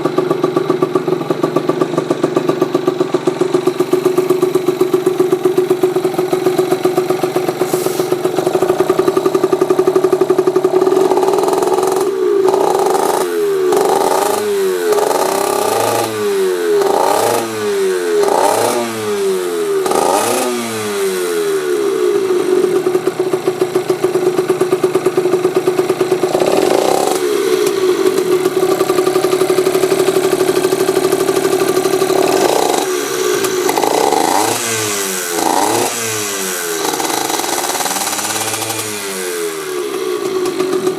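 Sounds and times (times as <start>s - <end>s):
two-stroke motorcycle engine revving: 0.0s - 40.9s.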